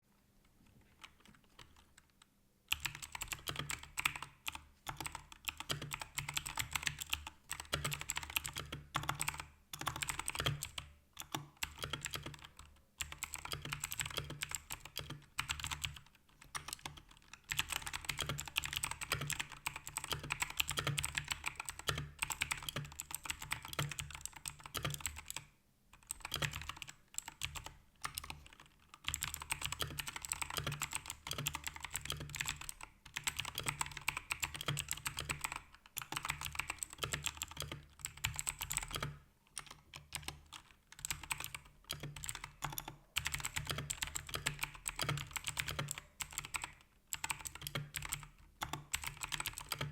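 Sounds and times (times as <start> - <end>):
typing on mechanical keyboard: 0.8 - 49.9.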